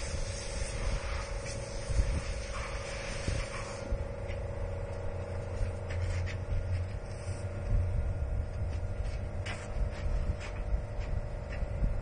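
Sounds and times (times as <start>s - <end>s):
low rumble: 0.0s - 12.0s
mechanical hum: 0.0s - 12.0s.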